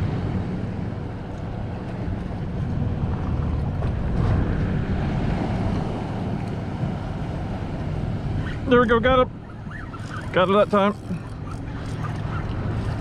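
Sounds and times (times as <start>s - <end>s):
wind buffeting the microphone: 0.7s - 13.0s.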